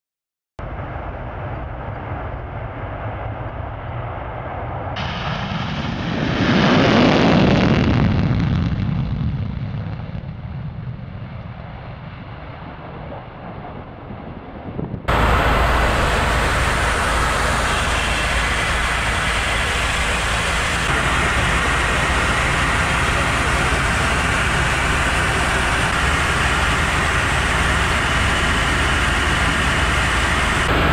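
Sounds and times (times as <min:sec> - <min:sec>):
engine and airflow noise inside aircraft: 0:00.6 - 0:30.9
jet engines at takeoff power: 0:00.6 - 0:30.9.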